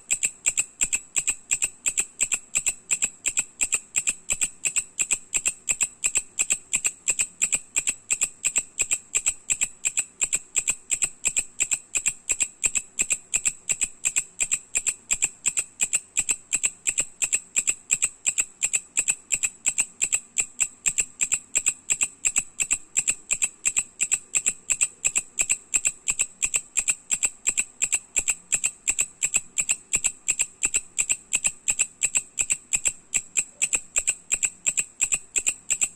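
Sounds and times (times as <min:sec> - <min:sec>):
katydid ticking call: 0:00.0 - 0:35.9.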